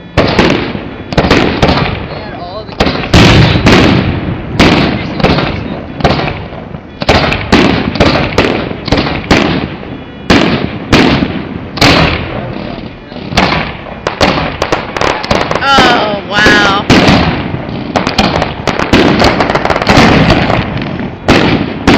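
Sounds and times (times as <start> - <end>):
fireworks bangs with rumbling tails: 0.0 - 21.9.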